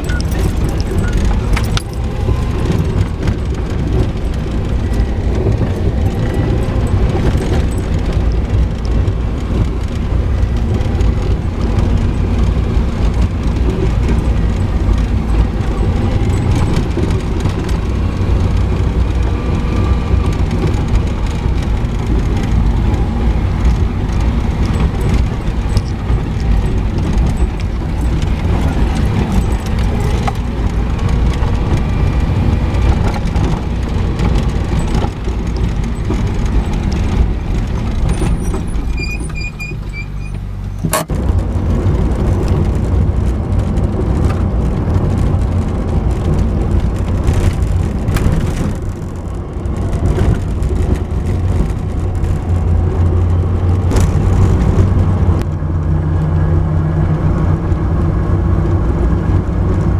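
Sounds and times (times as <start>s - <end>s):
knocks and rattles: 0.0s - 55.5s
engine and tyre rumble: 0.0s - 59.9s.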